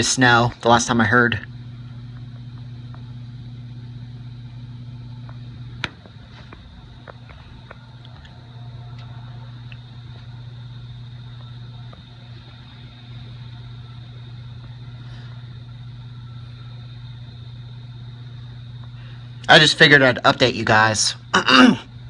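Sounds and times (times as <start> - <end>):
faint high whine: 0.0 - 22.0
low mechanical hum: 0.0 - 22.0.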